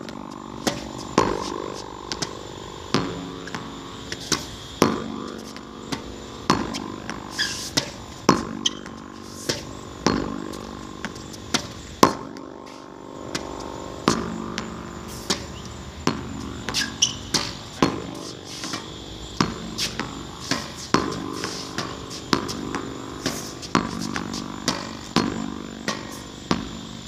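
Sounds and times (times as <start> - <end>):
racket hitting tennis ball: 0.0 - 26.9.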